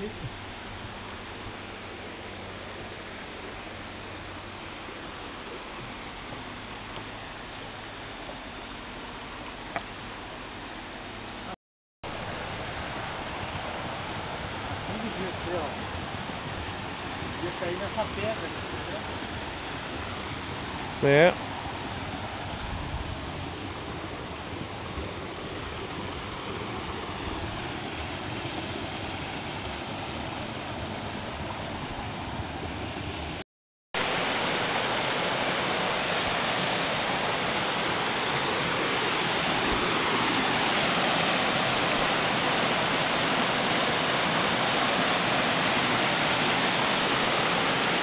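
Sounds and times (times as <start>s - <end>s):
waterfall rushing: 0.0s - 32.3s, 34.0s - 48.0s.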